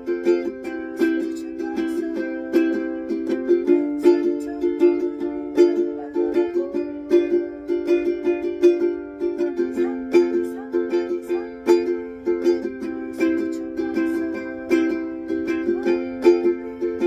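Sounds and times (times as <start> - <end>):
ukulele strumming: 0.0 - 17.0.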